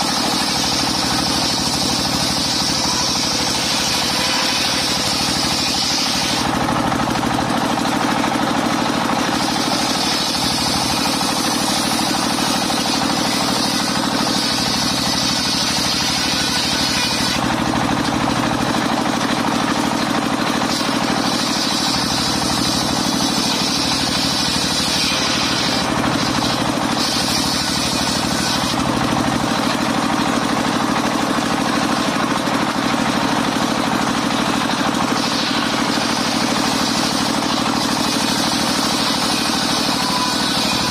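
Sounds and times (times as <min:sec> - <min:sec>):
sawmill engine hum: 0:00.0 - 0:40.9.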